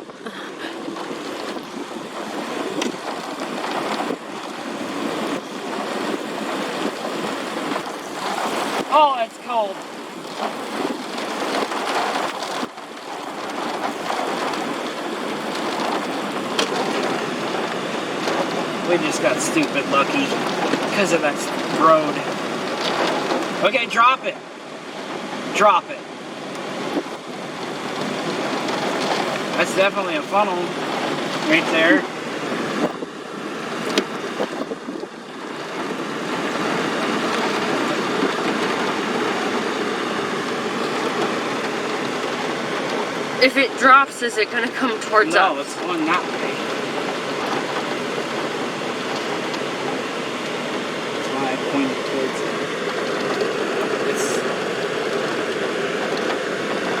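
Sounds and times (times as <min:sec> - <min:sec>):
wind buffeting microphone: 0:00.0 - 0:23.7, 0:24.5 - 0:57.0
heavy rain pouring: 0:00.0 - 0:57.0.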